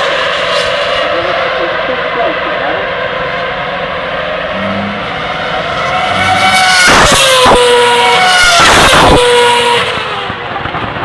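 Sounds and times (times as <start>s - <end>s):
racing car engines whining: 0.0s - 11.0s
racing cars rushing past: 0.0s - 11.0s.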